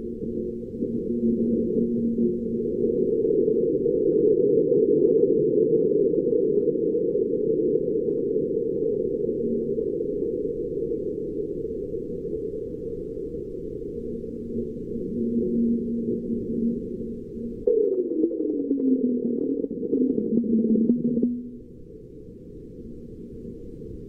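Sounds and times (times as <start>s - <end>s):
faint crackles: 0.0s - 24.0s.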